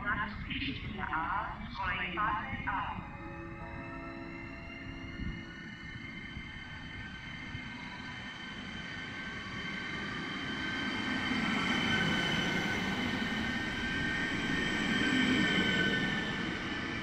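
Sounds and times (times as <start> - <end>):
train rolling past: 0.0 - 17.0
high whining tones: 2.3 - 16.6.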